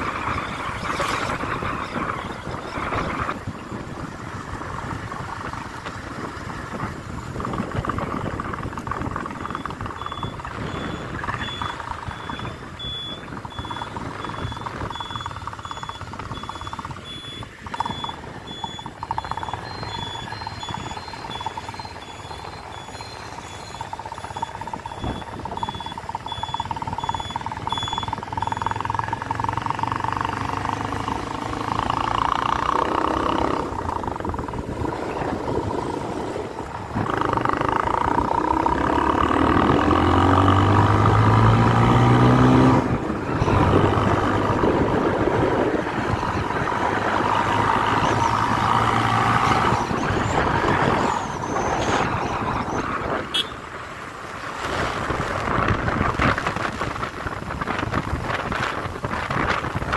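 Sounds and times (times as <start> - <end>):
high electronic beeps: 0.0 - 5.6, 7.4 - 53.6
motorcycle engine running: 0.0 - 51.8
wind and road noise: 0.0 - 59.9.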